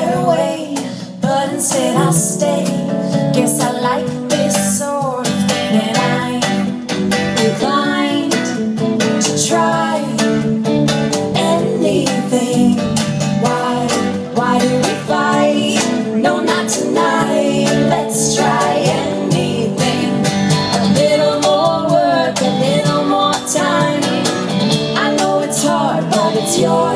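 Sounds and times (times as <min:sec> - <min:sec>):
strummed acoustic guitars: 0:00.0 - 0:26.9
woman singing: 0:00.0 - 0:26.9.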